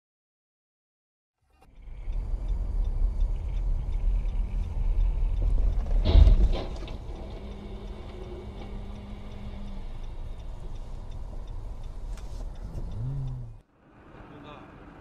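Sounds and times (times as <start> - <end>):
engine and road rumble: 1.4 - 15.0
faint regular ticking: 1.6 - 13.7.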